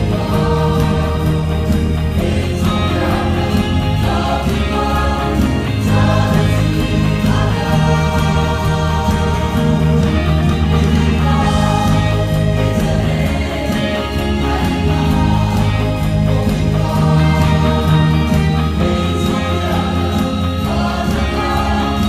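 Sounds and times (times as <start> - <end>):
mixed choir singing a hymn: 0.0 - 22.0.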